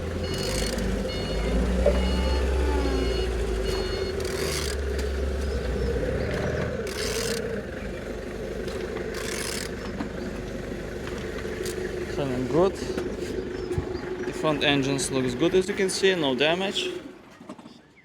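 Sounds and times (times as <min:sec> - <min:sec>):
diesel engine idling: 0:00.0 - 0:17.4.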